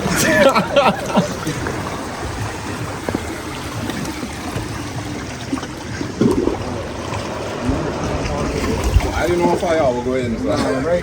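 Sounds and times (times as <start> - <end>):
seawater washing around rocks: 0.0 - 11.0.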